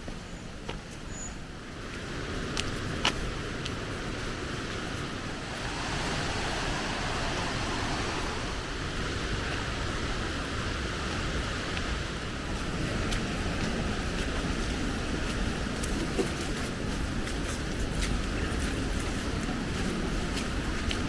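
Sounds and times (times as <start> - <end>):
wind: 0.0 - 21.0
water rushing along boat hull: 2.1 - 21.0.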